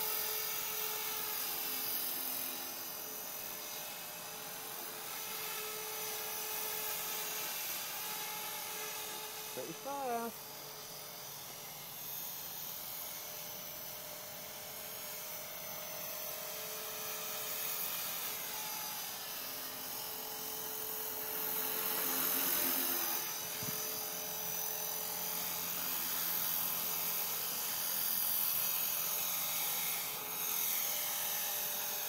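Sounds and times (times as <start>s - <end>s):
electric helicopter motor whine: 0.0s - 32.0s.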